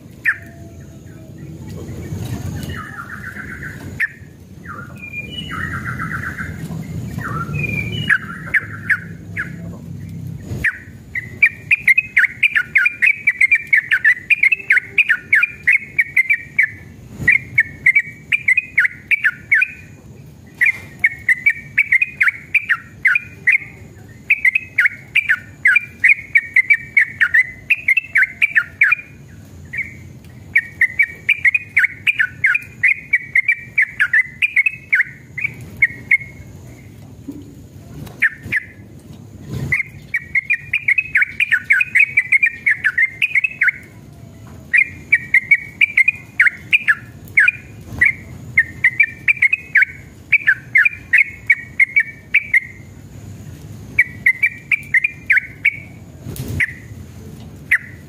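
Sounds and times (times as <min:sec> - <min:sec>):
bird singing bubbling notes: 0:00.0 - 0:38.9, 0:39.7 - 0:57.0, 0:57.6 - 0:58.0.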